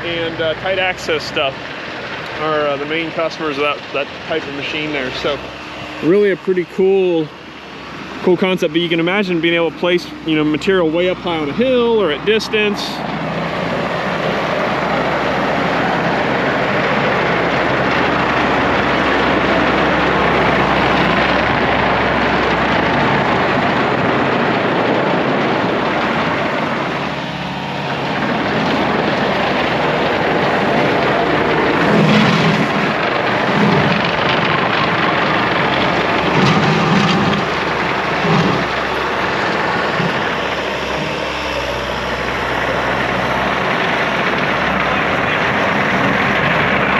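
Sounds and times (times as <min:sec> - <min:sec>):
diesel engine running: 0:00.0 - 0:46.9
short low pulses: 0:00.0 - 0:46.9.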